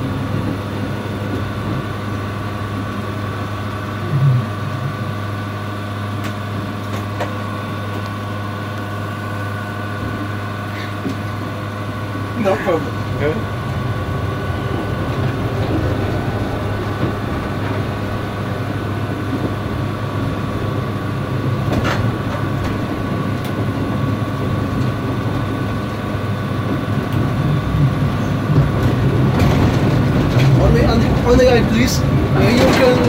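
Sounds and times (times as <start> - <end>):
constant high hum: 0.0 - 33.0
tram rumbling on rails: 0.0 - 33.0.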